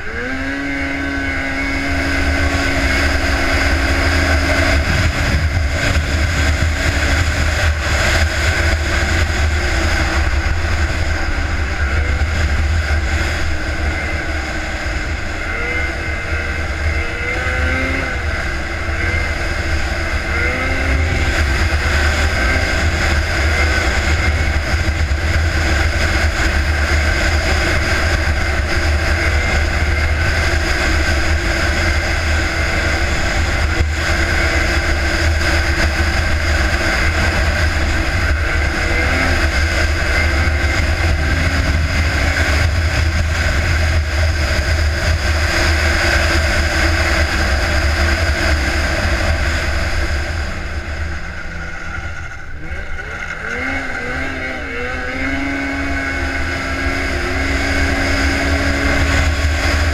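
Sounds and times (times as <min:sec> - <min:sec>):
wind buffeting microphone: 0:00.0 - 0:54.2
snowmobile engine revving: 0:00.0 - 0:59.9.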